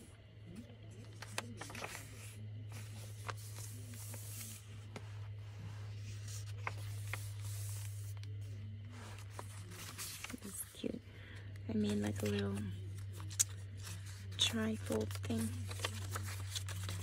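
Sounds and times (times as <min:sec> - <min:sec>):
steady low hum: 0:00.0 - 0:17.0
paper pages rustling: 0:01.0 - 0:10.7, 0:11.8 - 0:17.0.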